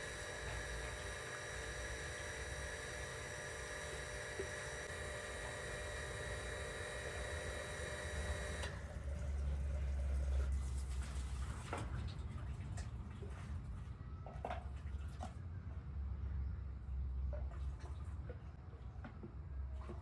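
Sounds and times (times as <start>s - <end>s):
mechanical hum with whining tones: 0.0s - 20.0s.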